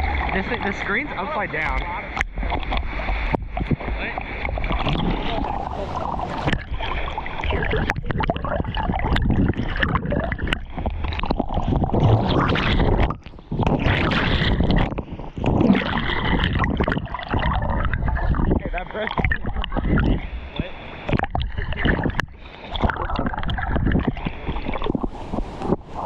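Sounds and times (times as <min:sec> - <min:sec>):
water rushing and splashing: 0:00.0 - 0:26.0.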